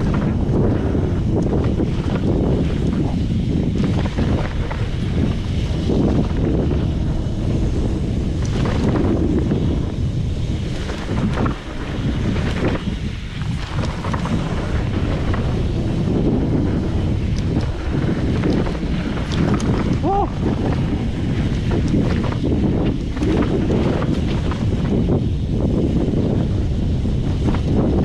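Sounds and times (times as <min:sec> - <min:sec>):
bike knocks and rattles: 0:00.0 - 0:28.0
bike rumble: 0:00.0 - 0:28.0
wind buffeting microphone: 0:00.0 - 0:28.0.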